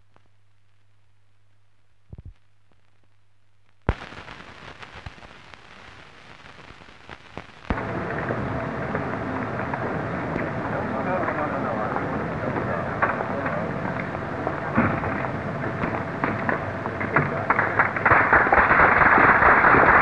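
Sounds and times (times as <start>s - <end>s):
low hum: 0.0s - 18.5s
film soundtrack crackle and pops: 0.0s - 20.0s.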